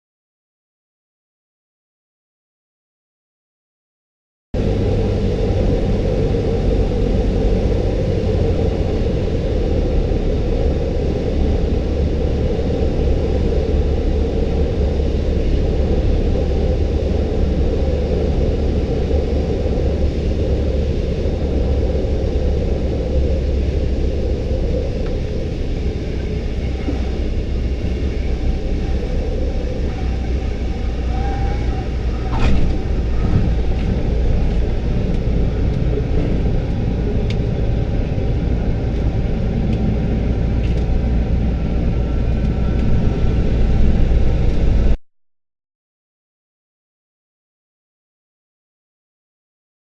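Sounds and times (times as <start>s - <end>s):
propeller aircraft engine drone: 4.6s - 45.0s.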